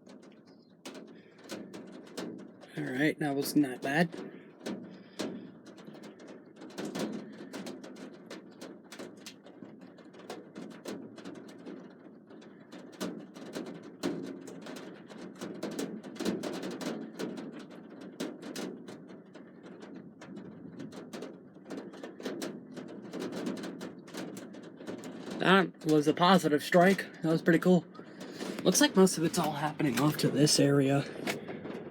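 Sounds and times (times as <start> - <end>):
raindrops tapping: 0.0 - 31.9.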